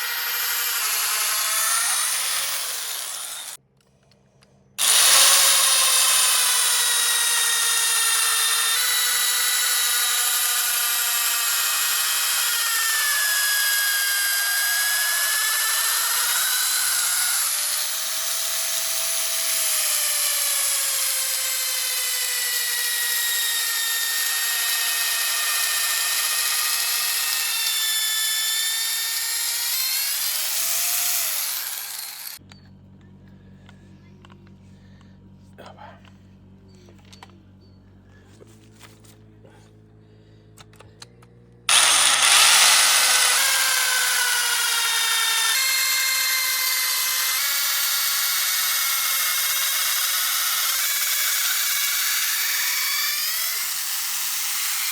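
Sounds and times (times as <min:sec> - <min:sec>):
power drill boring into wood: 0:00.0 - 0:03.6, 0:04.8 - 0:32.4, 0:41.7 - 0:54.9.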